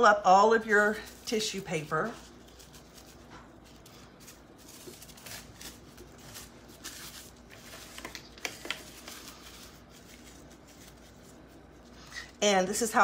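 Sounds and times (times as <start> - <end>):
tissue paper crinkling: 0.4 - 13.0.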